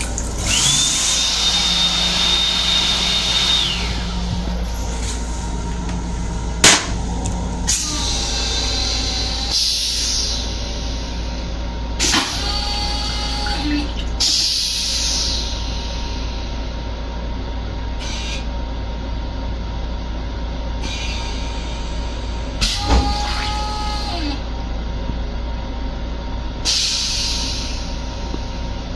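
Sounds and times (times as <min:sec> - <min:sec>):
train running low rumble: 0:00.0 - 0:28.9.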